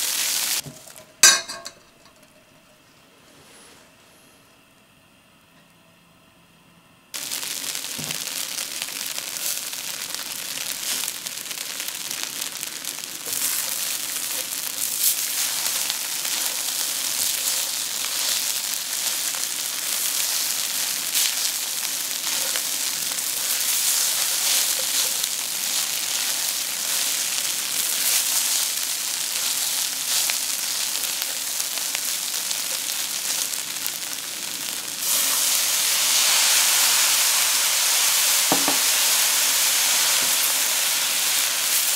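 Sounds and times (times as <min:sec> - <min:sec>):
rice sizzling in wok: 0:00.0 - 0:01.8, 0:07.1 - 0:41.9.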